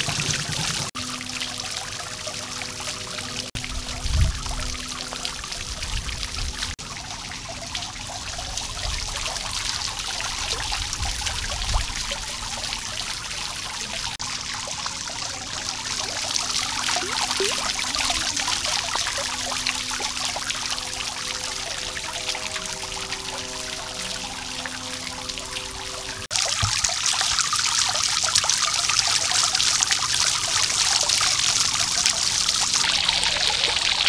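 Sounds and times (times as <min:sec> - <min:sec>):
fountain water splashing: 0:00.0 - 0:34.0.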